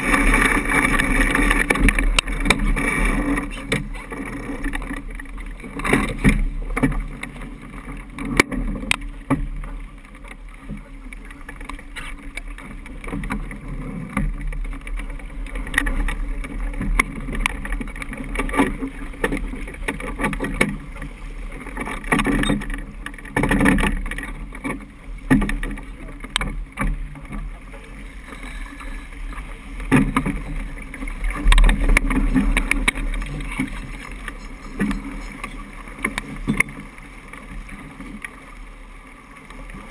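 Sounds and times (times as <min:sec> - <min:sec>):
boat gear knocks and rattles: 0:00.0 - 0:38.6
water rushing along hull: 0:00.0 - 0:39.9.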